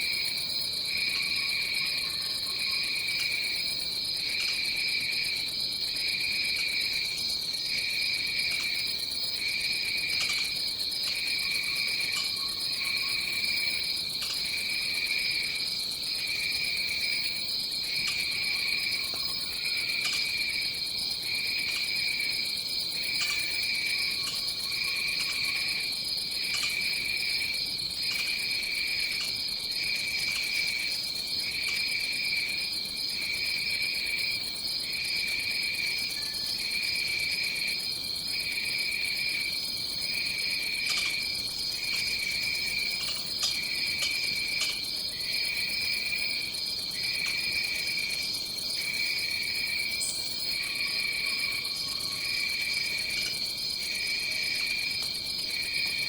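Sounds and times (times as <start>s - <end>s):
insect high drone: 0.0s - 56.0s.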